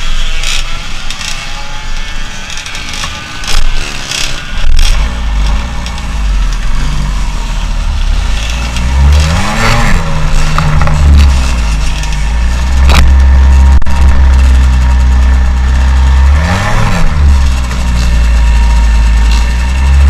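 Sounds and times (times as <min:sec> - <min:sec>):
motorcycle engine running and revving: 0:00.0 - 0:20.0.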